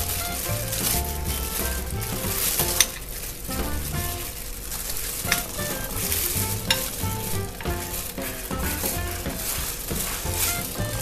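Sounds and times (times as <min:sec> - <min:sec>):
soft background music: 0:00.0 - 0:04.4, 0:05.2 - 0:11.0.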